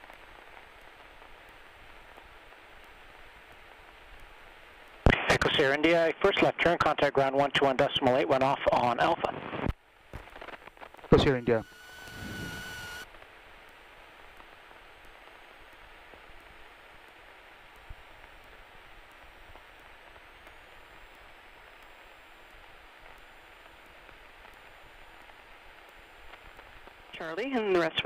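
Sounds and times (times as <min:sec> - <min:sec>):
faint radio static hiss: 0:00.0 - 0:28.0.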